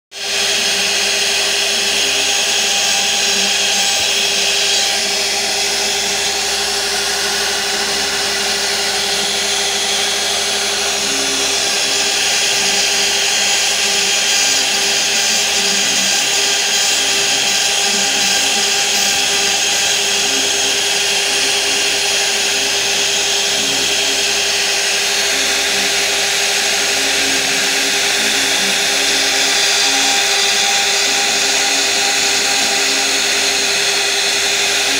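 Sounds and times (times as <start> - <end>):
router spindle whine: 0.1 - 34.9
bit rasping in wood: 0.2 - 34.9.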